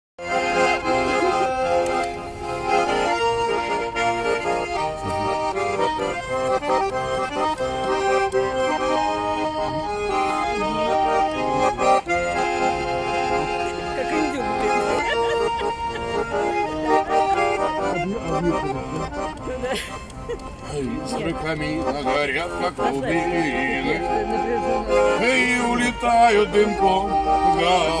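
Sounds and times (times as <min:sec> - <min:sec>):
button accordion melody: 0:00.2 - 0:28.0.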